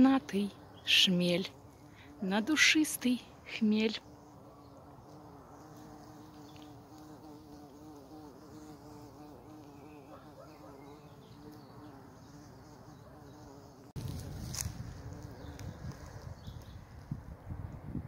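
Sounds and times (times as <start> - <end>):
bumblebee buzzing in flight: 0.0 - 17.4.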